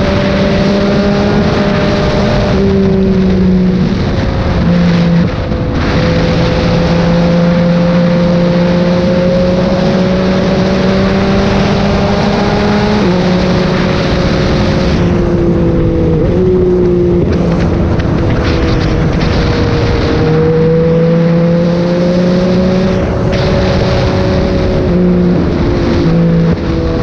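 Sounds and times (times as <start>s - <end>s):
motorcycle engine running hard: 0.0s - 27.0s
wind rush over microphone: 0.0s - 27.0s.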